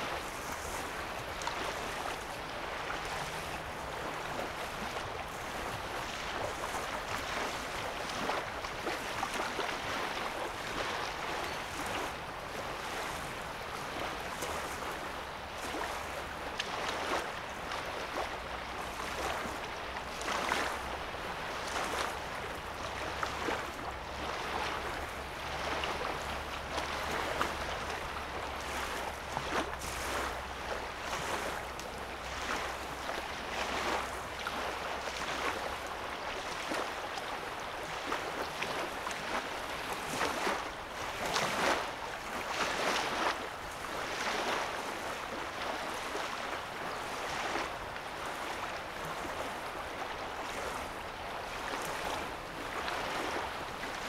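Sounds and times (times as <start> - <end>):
small waves lapping: 0.0 - 54.0.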